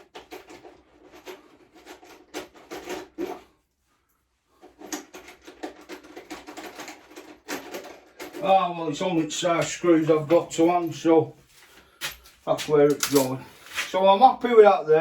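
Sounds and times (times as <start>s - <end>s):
tools rubbing and scraping: 0.0s - 14.1s.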